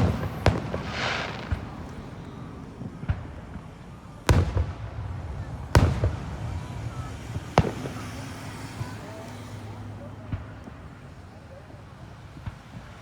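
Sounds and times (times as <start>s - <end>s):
fireworks booming: 0.0s - 13.0s
rolling echoing rumble: 0.0s - 13.0s.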